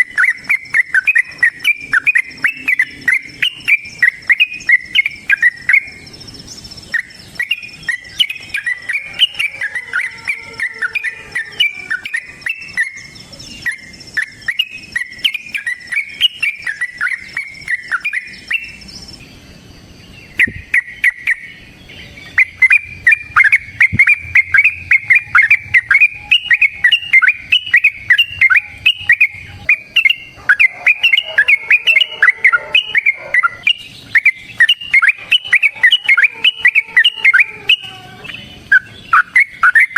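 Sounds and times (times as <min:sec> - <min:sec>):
bird rolling chattering song: 0:00.0 - 0:39.9.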